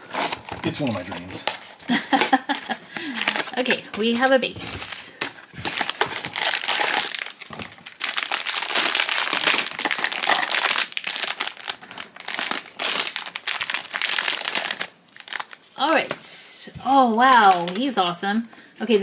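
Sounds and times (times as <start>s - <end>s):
foil bag crinkling: 0.1s - 15.8s, 17.0s - 18.2s.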